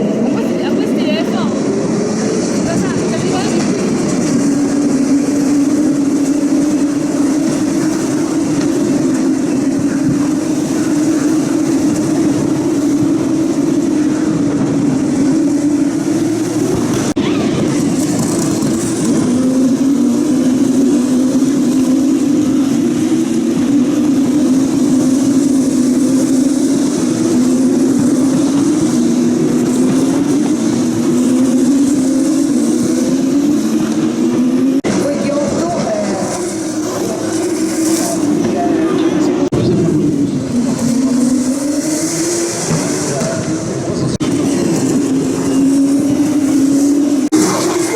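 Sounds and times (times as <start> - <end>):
racing car engines: 0.0 - 47.9.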